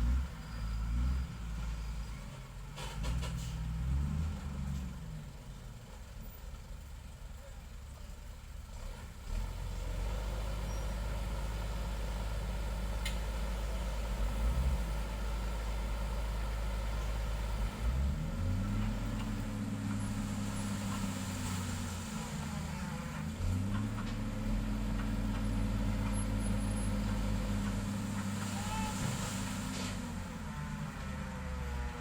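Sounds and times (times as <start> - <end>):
diesel engine revving: 0.0 - 5.8, 8.6 - 32.0.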